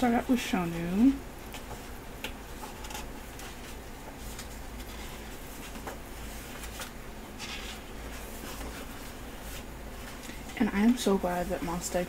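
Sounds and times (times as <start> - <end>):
paper pages rustling: 1.5 - 12.0.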